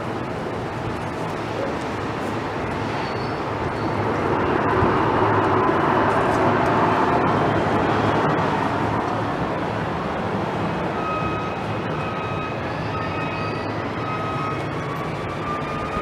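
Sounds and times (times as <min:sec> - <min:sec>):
jet airliner passing: 0:00.0 - 0:16.0.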